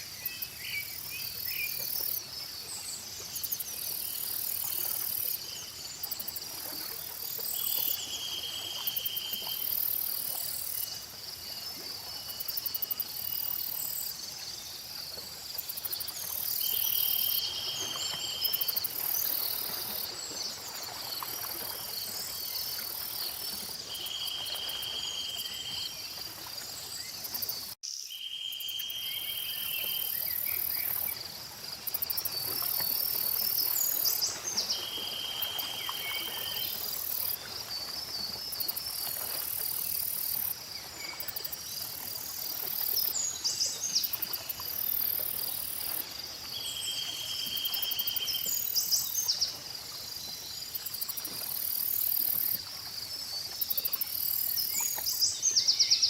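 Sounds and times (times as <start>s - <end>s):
steady insect trill: 0.0s - 56.0s.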